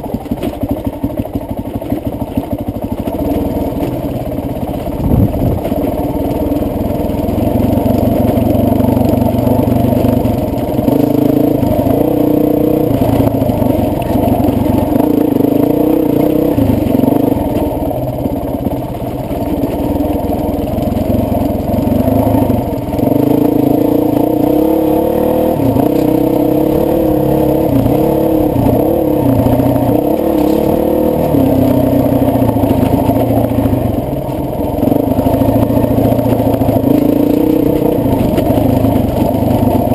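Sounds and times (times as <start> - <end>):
dirt bike engine revving: 3.0 - 39.9.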